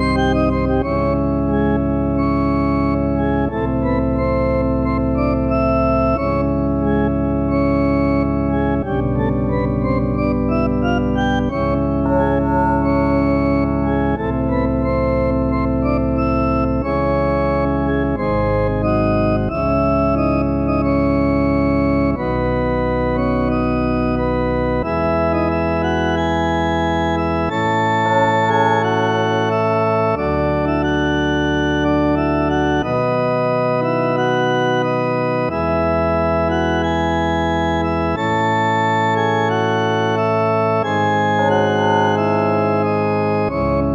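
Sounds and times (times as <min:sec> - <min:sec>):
organ playing chords: 0:00.0 - 0:43.9.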